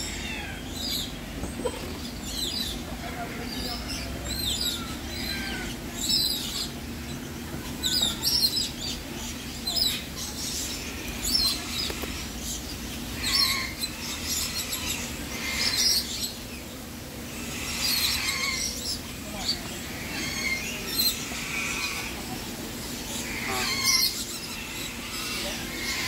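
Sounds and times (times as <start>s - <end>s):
parrots squawking: 0.0s - 7.2s, 7.8s - 16.3s, 17.3s - 26.0s
steady low hum: 0.0s - 26.0s.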